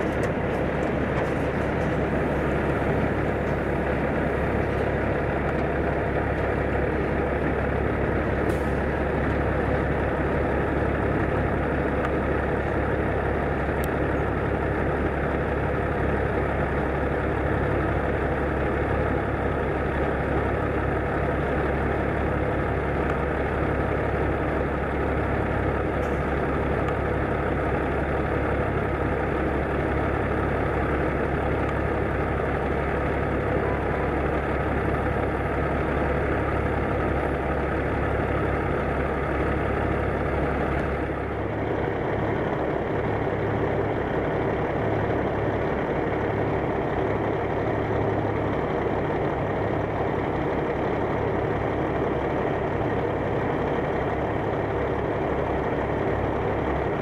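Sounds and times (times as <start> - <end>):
truck diesel engines running: 0.0 - 57.0.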